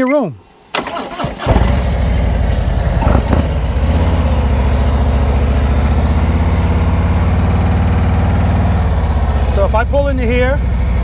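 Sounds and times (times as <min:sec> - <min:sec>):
motorcycle engine idling: 0:01.5 - 0:11.0.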